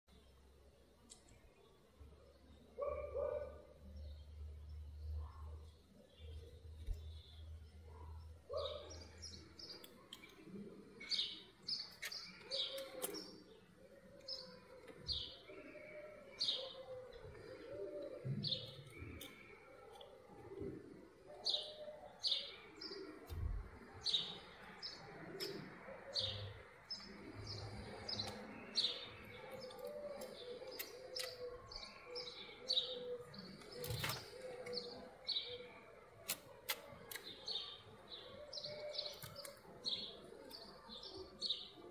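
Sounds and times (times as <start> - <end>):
small birds chirping: 0.1 - 41.9.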